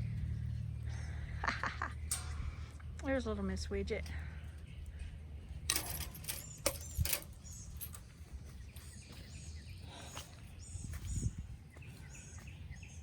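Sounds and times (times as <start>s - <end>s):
steady low rumble: 0.0s - 12.8s
small birds chirping: 0.0s - 13.0s.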